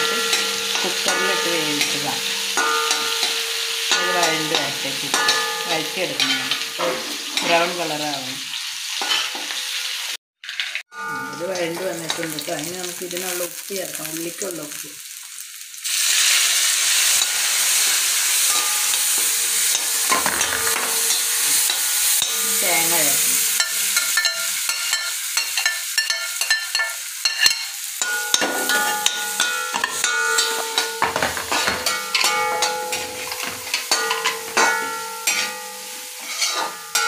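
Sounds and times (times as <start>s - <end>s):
metal ladle scraping a pan: 0.0s - 7.9s, 9.0s - 9.9s, 16.1s - 37.0s
onions frying in oil: 0.0s - 10.8s, 11.4s - 37.0s.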